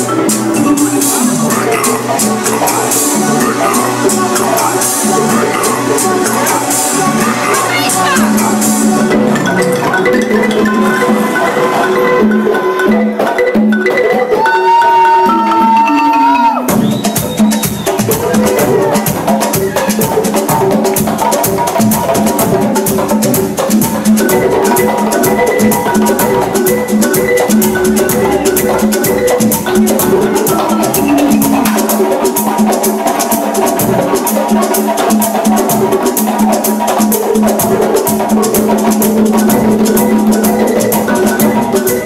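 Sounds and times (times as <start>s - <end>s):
conga drums: 0.0s - 42.0s
live band music: 0.0s - 42.0s.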